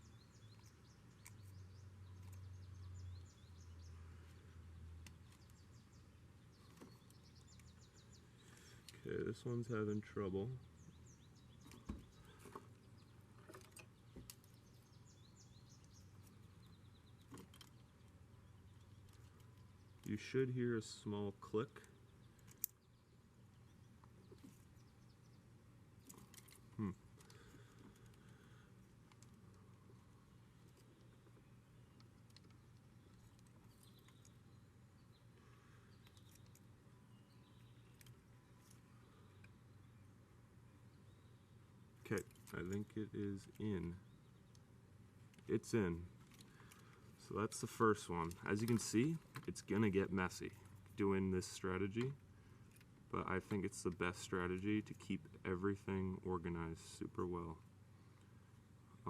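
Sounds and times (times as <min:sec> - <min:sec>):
faint birds chirping: 0:00.0 - 0:59.0.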